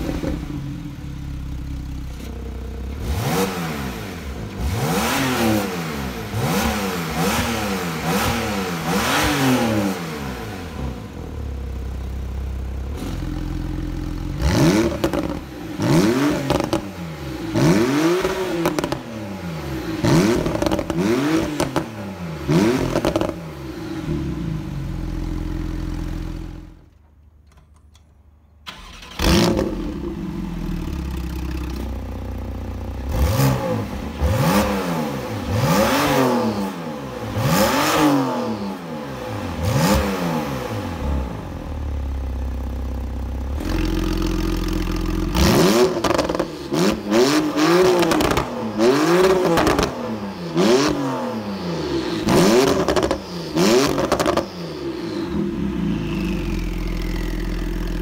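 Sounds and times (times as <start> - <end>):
sports car engine revving: 2.8 - 12.0, 12.7 - 26.8, 28.8 - 58.0.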